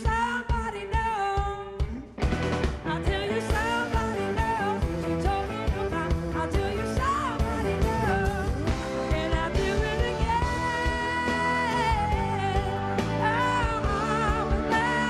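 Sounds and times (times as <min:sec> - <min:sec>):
blues-rock band playing: 0:00.0 - 0:15.0.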